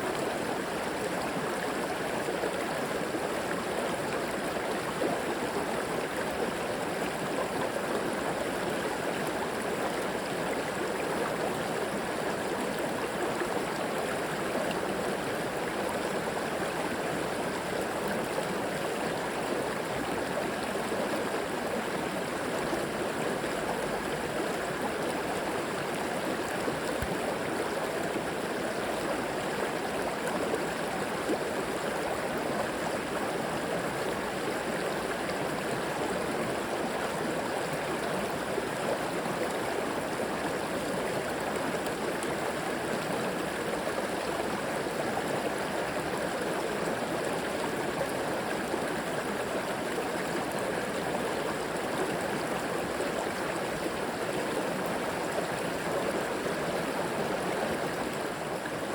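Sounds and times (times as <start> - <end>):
river water flowing over rocks: 0.0 - 58.9.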